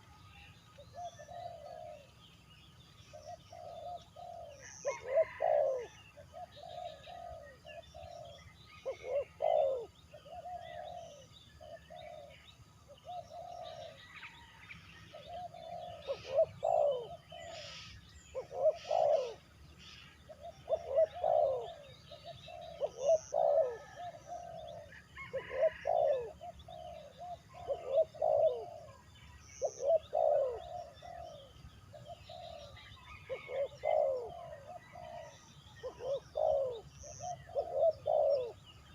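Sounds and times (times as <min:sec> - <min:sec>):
small birds chirping: 0:00.0 - 0:38.9
doves cooing: 0:00.9 - 0:02.2, 0:03.1 - 0:38.9.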